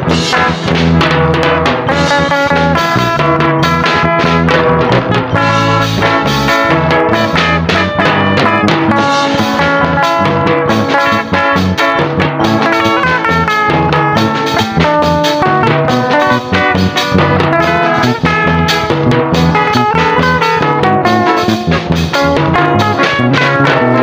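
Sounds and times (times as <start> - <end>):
live band playing dance music: 0.0 - 24.0.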